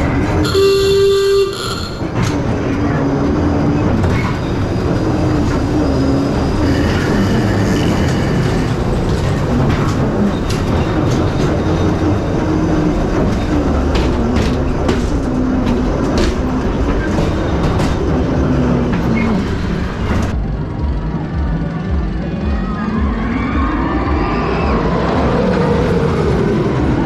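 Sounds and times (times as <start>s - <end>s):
ride car rumbling on track: 0.0s - 27.0s.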